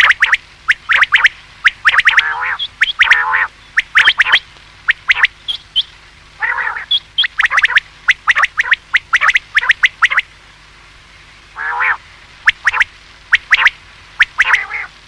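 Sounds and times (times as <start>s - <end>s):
quail calling: 0.0s - 10.2s, 11.6s - 15.0s
harsh buzzy bird call: 0.0s - 10.3s, 11.6s - 15.0s.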